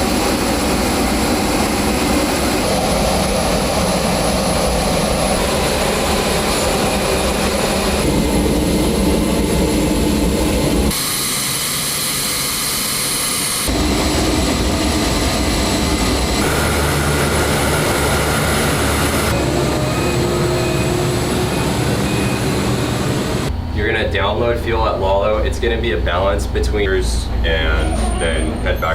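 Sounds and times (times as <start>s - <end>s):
turboprop engines droning: 0.0s - 28.9s.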